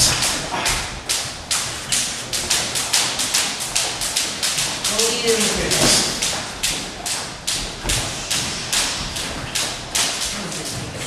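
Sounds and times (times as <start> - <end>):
sharp echoing thuds: 0.0 - 10.4.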